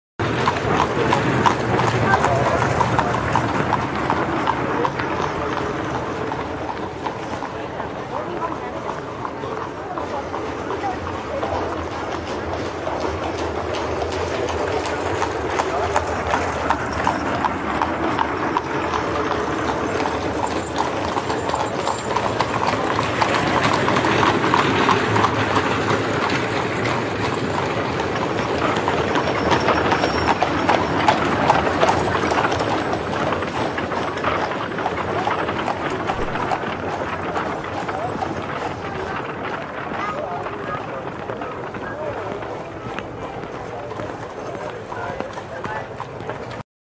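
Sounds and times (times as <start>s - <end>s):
horse hooves clip-clopping: 0.2s - 46.6s
street noise hum: 0.2s - 46.6s.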